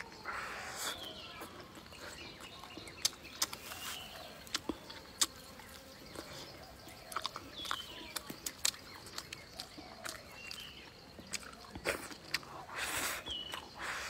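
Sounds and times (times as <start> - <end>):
person chewing meat: 0.0 - 14.0.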